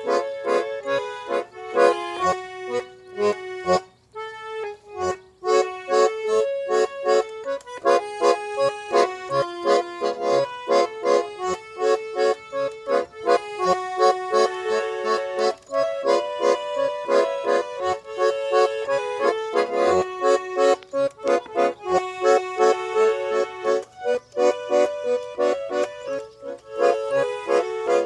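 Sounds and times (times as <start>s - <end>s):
button accordion folk tune: 0.0s - 28.0s.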